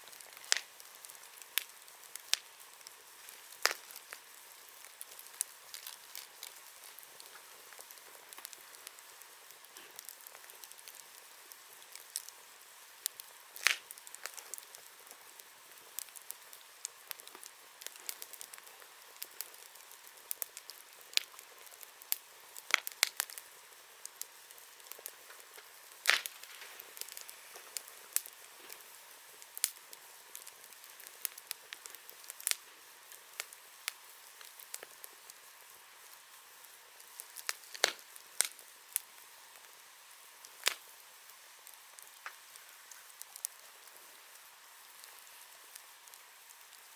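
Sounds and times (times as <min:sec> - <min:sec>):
bonfire crackling: 0:00.0 - 0:46.9
soft hiss: 0:00.0 - 0:46.9.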